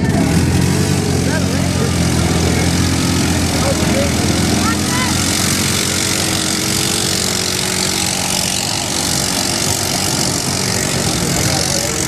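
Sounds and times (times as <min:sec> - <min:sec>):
quad engine running hard: 0:00.0 - 0:12.0.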